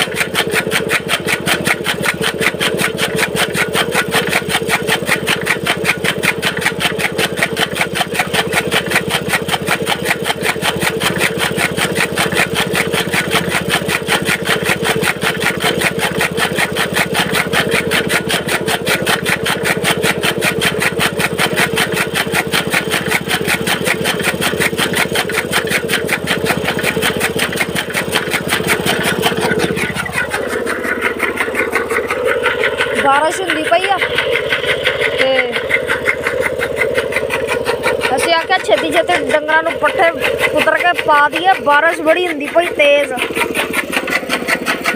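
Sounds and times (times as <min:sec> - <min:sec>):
blades chopping fodder: 0:00.0 - 0:44.9
small engine running: 0:00.0 - 0:44.9.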